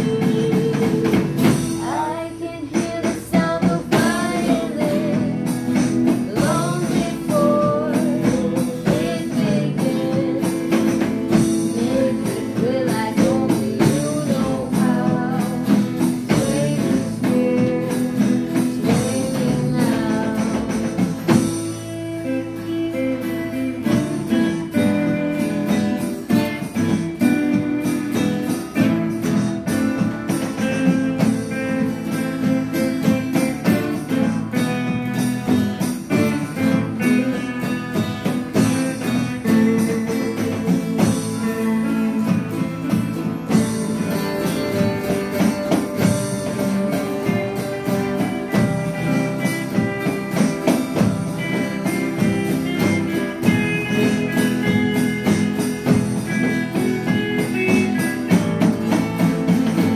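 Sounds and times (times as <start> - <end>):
drums keeping beat: 0.0 - 59.9
electric lead guitar: 0.0 - 59.9
strummed acoustic guitars: 0.0 - 59.9.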